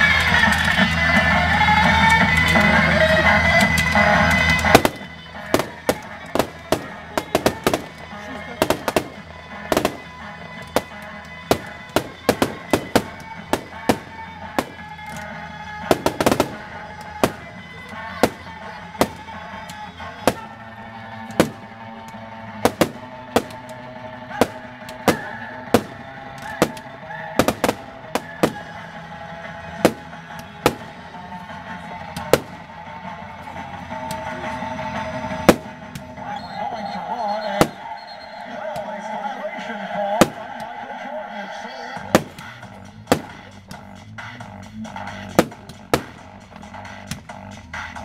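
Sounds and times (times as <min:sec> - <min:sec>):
fireworks bursting: 0:00.0 - 0:33.0, 0:34.7 - 0:39.2, 0:40.0 - 0:40.6, 0:42.0 - 0:43.7, 0:45.0 - 0:47.3
music playing: 0:00.0 - 0:48.0.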